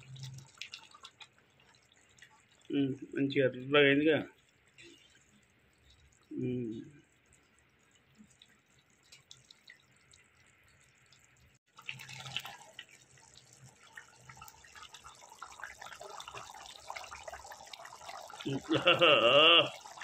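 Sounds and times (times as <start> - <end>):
curry bubbling in metal pan: 0.0 - 20.0.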